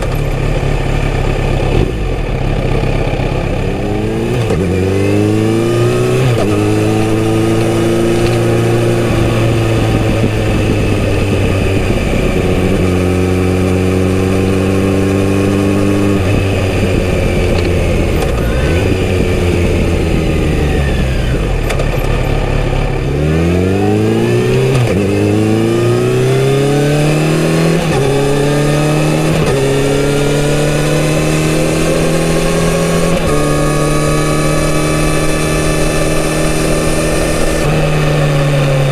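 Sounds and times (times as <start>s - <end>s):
motorcycle engine revving through gears: 0.0s - 38.9s.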